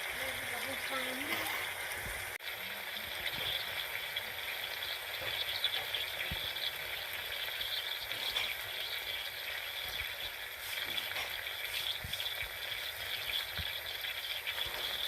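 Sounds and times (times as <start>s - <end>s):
food sizzling in a pan: 0.0s - 15.0s
small pops of frying: 0.0s - 15.0s.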